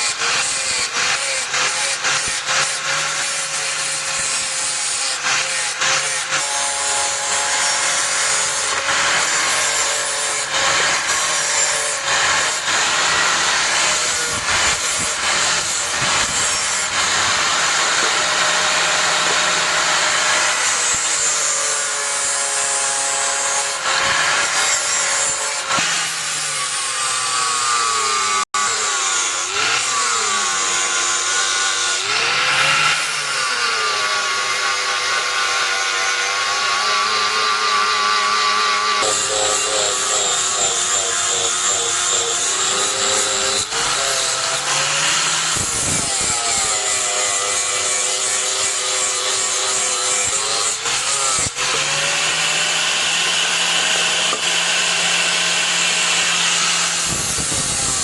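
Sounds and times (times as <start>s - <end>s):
power grinder grinding steel: 0.0s - 58.0s.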